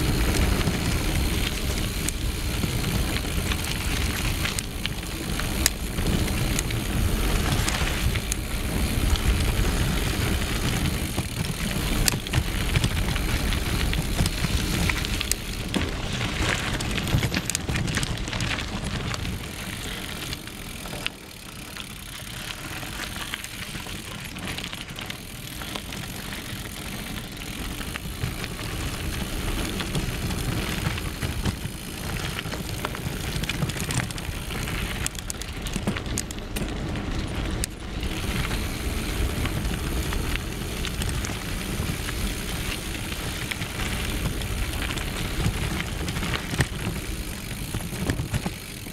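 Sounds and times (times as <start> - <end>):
wind rumble on microphone: 0.0 - 21.1, 21.8 - 48.9
bike rattling: 0.0 - 48.9
bike tyres rolling on dirt: 0.0 - 48.9.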